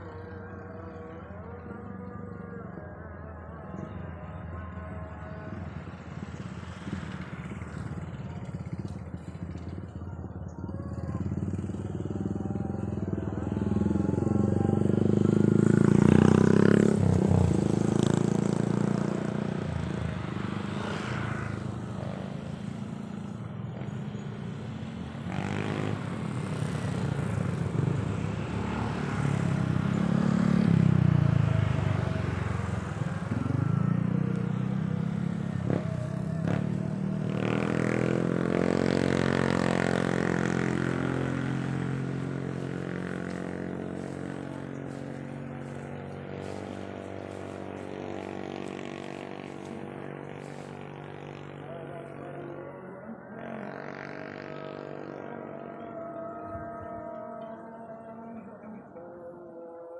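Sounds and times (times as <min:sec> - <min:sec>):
passing motor vehicle engines: 0:00.0 - 0:59.9.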